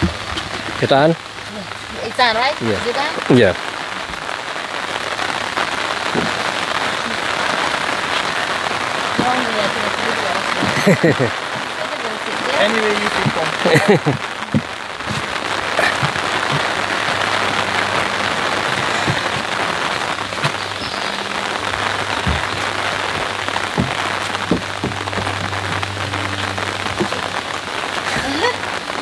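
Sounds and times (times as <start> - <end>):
rain on umbrella: 0.0 - 29.0.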